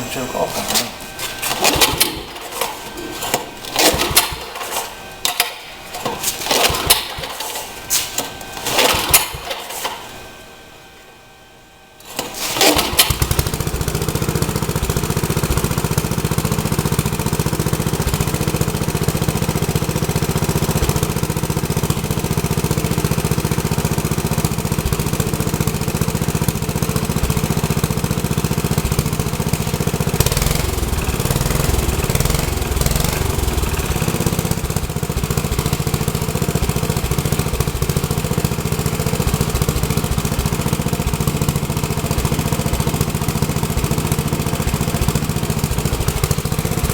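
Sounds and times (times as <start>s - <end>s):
small engine starting and running: 1.4s - 10.1s, 12.0s - 46.9s.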